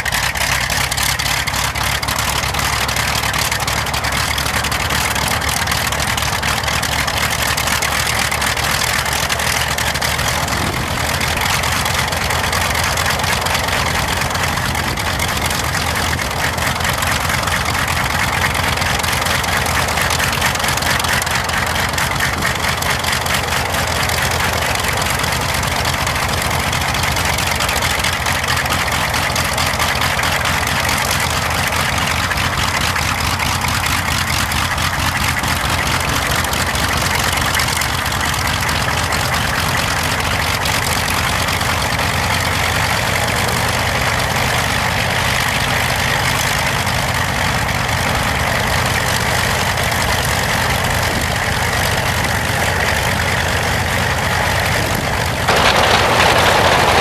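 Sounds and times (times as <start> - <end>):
radial aircraft engines running: 0.0 - 57.0.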